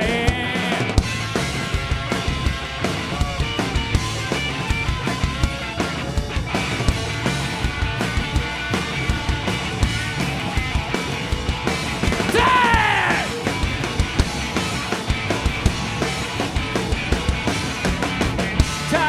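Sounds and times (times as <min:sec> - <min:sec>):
bass guitar: 0:00.0 - 0:19.0
drum kit beat: 0:00.0 - 0:19.0.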